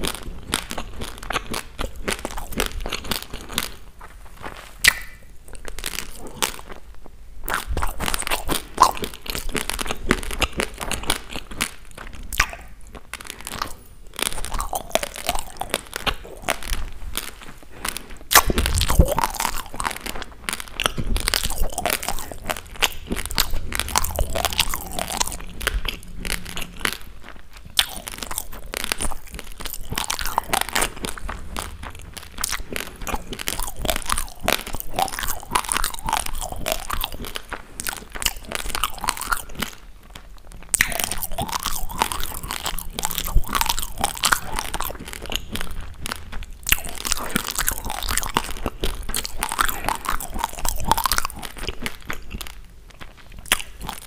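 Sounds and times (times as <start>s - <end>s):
person chewing crunchy rice: 0.0s - 54.0s.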